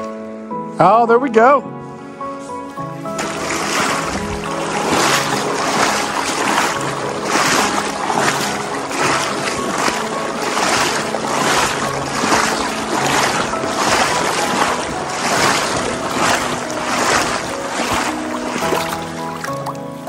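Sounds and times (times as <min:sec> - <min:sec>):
faint background music: 0:00.0 - 0:20.0
rushing water: 0:02.0 - 0:20.0
wind noise: 0:03.1 - 0:19.4.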